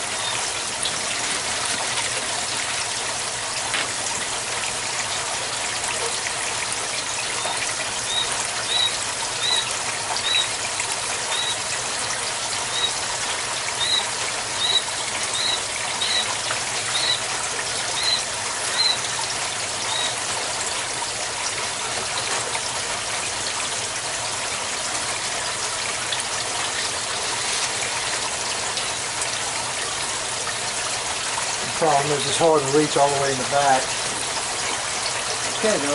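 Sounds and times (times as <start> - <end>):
water trickling: 0.0 - 35.9.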